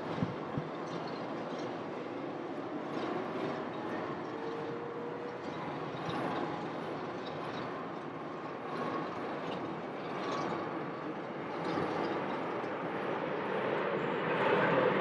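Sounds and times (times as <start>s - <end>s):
distant jet engines: 0.0s - 15.0s.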